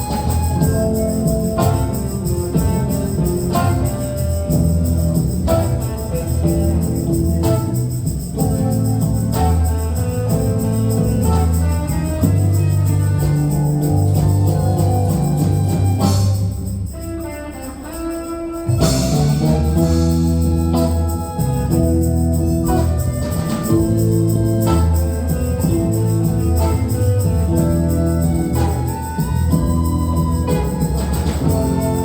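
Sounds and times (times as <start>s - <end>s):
live band music: 0.0s - 32.0s.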